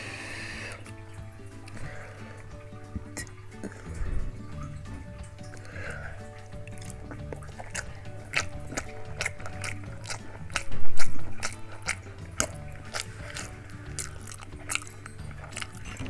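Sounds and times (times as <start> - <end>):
background music: 0.0 - 16.0
wet mouth clicks and smacks: 1.6 - 16.0.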